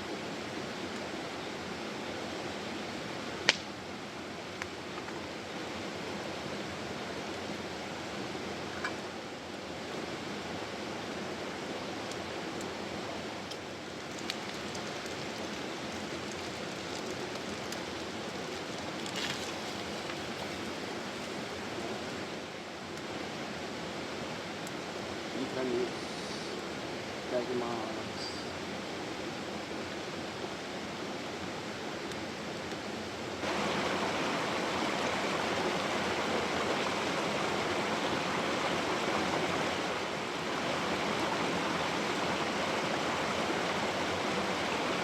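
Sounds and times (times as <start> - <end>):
mountain stream rushing: 4.0 - 27.3, 27.9 - 45.0.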